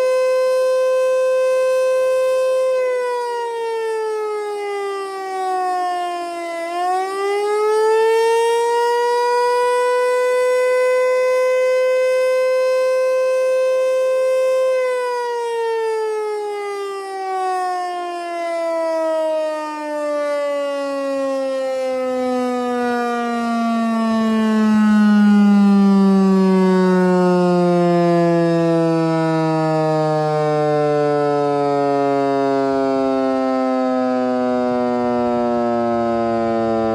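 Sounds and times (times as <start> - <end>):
tornado siren tone: 0.0 - 36.9.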